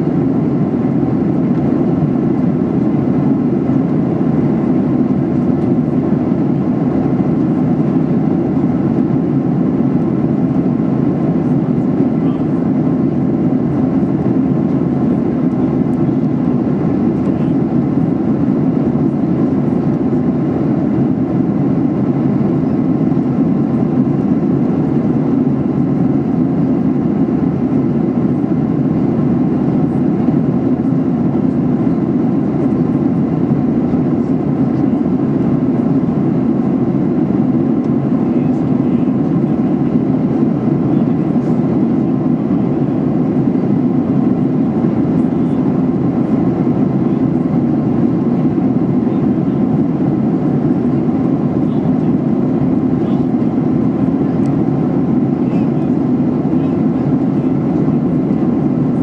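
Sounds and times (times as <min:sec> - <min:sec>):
airplane cabin noise: 0:00.0 - 0:59.0.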